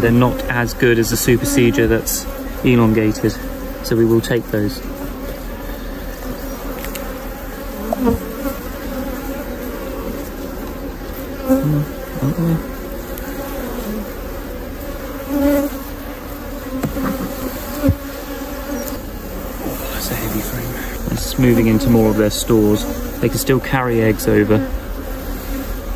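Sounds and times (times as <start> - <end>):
bees buzzing around hive: 0.0 - 25.9
single bees flying past: 0.0 - 25.9.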